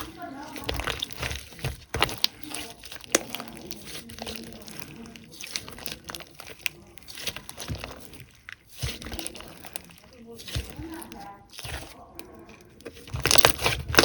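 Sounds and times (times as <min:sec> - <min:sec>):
slime squished by hand: 0:00.0 - 0:14.0.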